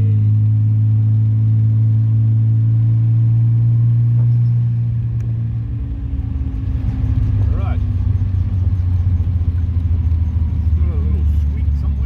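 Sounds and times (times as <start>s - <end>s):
car engine pulling uphill: 0.0s - 12.0s.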